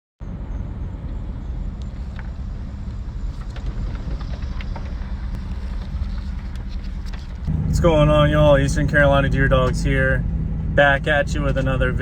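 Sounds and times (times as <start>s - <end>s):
vehicle engine rumbling: 0.2s - 12.0s.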